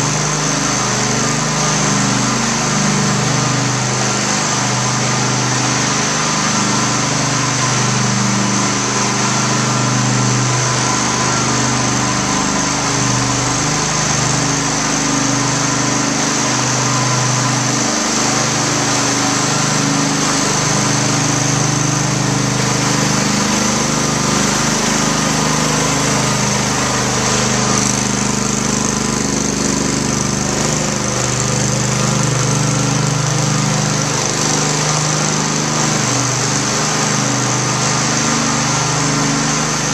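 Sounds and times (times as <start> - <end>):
floor burnisher engine running: 0.0 - 39.9.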